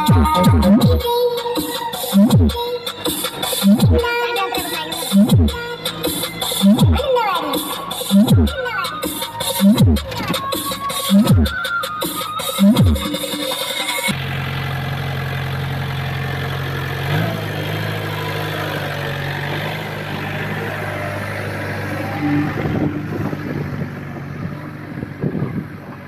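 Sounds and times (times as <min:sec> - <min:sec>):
heavy machine engine running: 0:02.0 - 0:11.6, 0:14.0 - 0:26.0.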